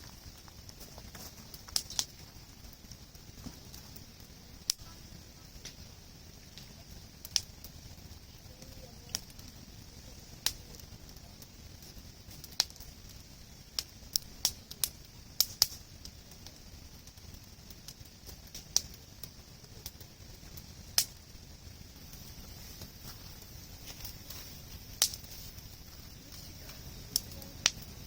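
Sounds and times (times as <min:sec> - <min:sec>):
campfire pops: 0:00.0 - 0:28.0
fire hiss: 0:00.0 - 0:28.0.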